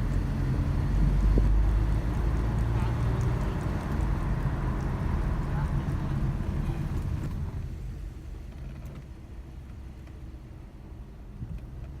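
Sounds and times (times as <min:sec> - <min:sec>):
faint traffic noise: 0:00.0 - 0:12.0.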